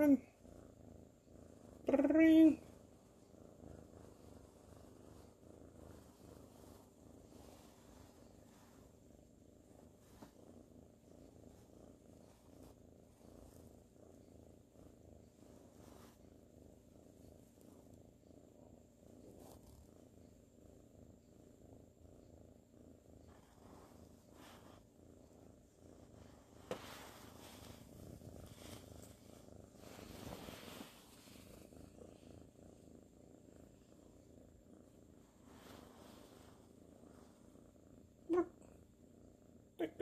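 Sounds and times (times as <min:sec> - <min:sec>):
kitten purring: 0:00.0 - 0:40.0.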